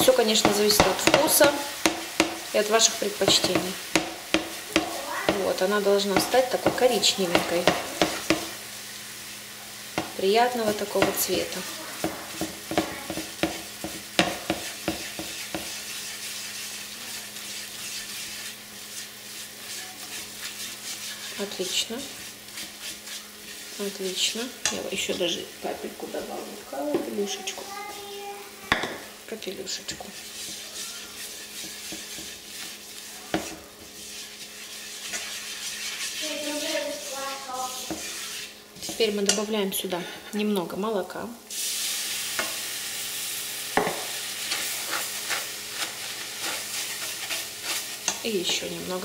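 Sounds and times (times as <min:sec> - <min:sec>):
spatula scraping and tapping pan: 0:00.0 - 0:08.6, 0:09.6 - 0:40.3, 0:42.3 - 0:42.6, 0:43.7 - 0:49.0
butter and flour sizzling in pan: 0:00.0 - 0:49.0.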